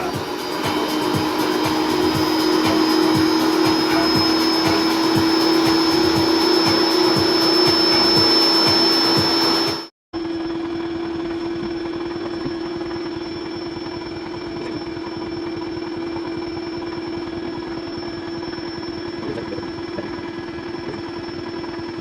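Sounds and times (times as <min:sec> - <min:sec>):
electric air pump humming: 0:00.0 - 0:22.0.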